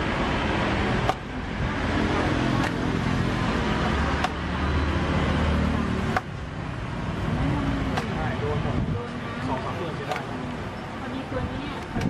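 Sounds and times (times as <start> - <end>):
street traffic noise: 0.0 - 12.0
vehicle engine rumble: 0.0 - 12.0.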